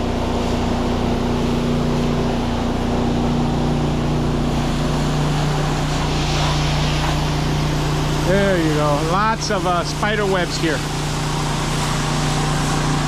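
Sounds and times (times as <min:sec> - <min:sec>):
pressure washer hum: 0:00.0 - 0:13.0
water spray hissing on wall: 0:00.0 - 0:13.0.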